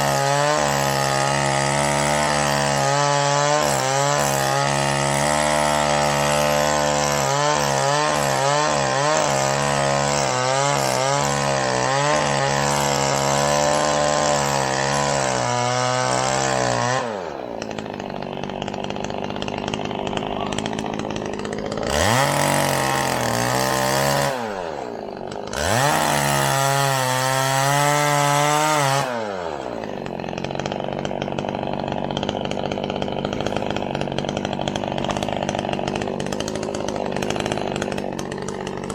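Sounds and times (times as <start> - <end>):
chainsaw cutting into tree: 0.0 - 38.9
chainsaw revving: 0.0 - 38.9.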